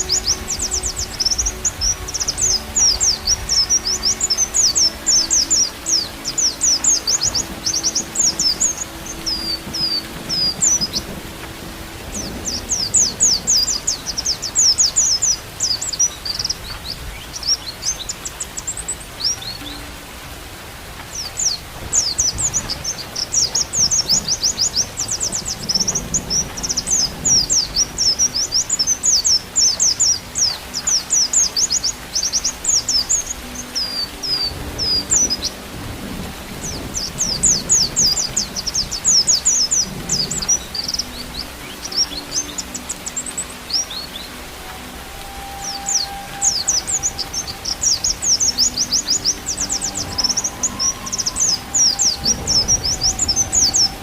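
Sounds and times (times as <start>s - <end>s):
bird twittering high chirps: 0.0s - 20.0s, 21.1s - 54.0s
low rain-like background: 0.0s - 54.0s.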